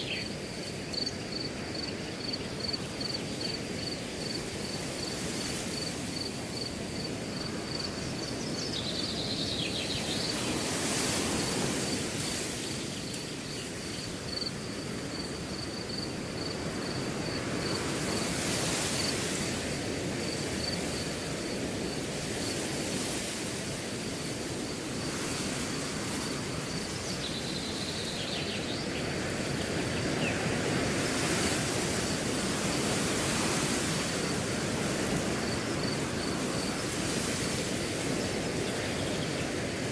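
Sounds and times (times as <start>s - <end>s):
cricket chirping: 0.0s - 39.9s
wind blowing through grass: 0.0s - 39.9s.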